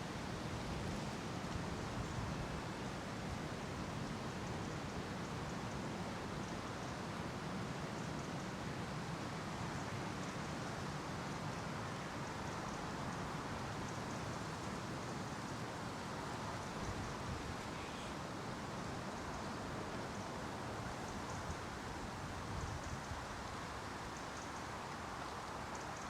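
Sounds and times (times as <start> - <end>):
wind through trees: 0.0 - 26.0.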